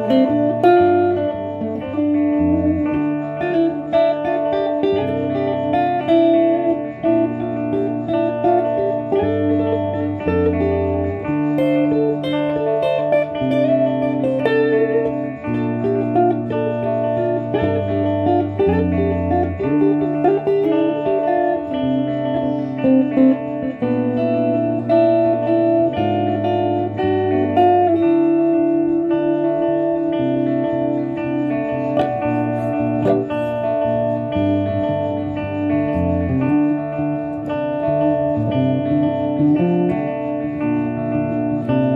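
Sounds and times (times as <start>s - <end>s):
low guitar held notes: 0.0s - 41.9s
picked guitar melody and chords: 0.0s - 41.9s.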